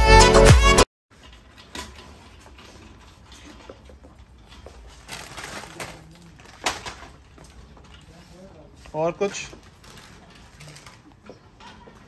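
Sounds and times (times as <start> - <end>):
toy cart rolling on tiles: 1.1 - 12.0.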